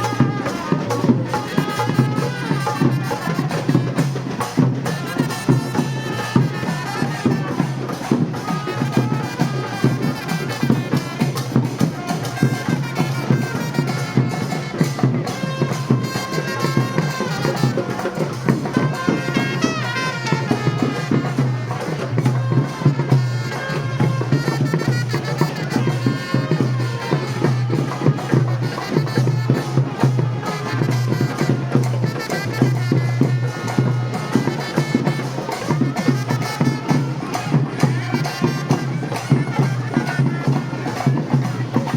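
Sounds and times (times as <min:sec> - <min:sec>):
drum ensemble fast rhythm: 0:00.0 - 0:41.9
shrill reed pipe melody: 0:00.0 - 0:41.9.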